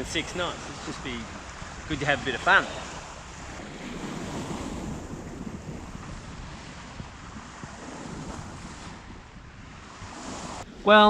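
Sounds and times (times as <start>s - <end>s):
water rushing past boat hull: 0.0s - 11.0s
wind buffeting microphone: 0.0s - 11.0s.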